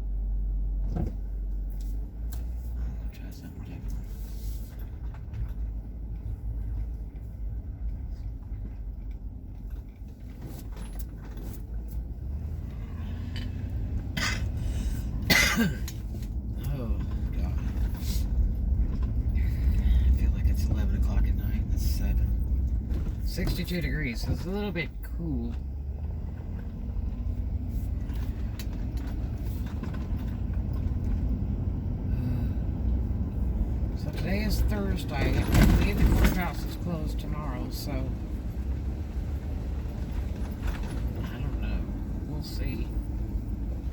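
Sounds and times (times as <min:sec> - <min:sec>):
vehicle engine low rumble: 0:00.0 - 0:43.9.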